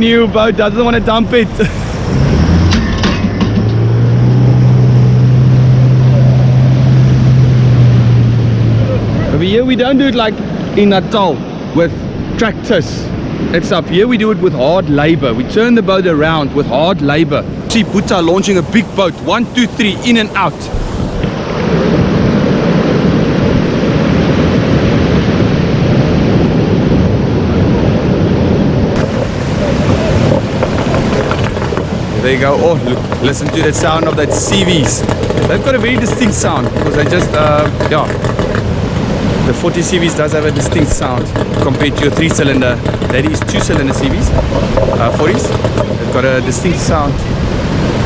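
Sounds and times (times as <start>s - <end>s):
engine running steadily: 0.0s - 48.0s
outboard boat motors: 0.0s - 48.0s
surf: 0.0s - 48.0s
wind on microphone: 0.0s - 48.0s.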